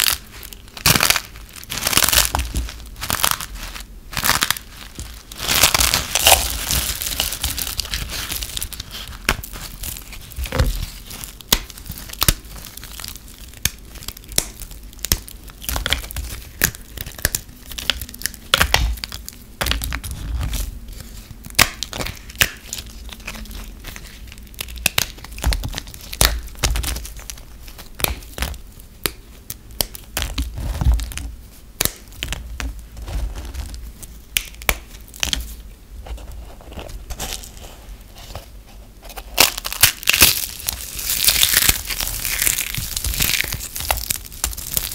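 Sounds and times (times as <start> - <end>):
dry soap snapping and crunching: 0.0 - 35.5, 39.1 - 44.9.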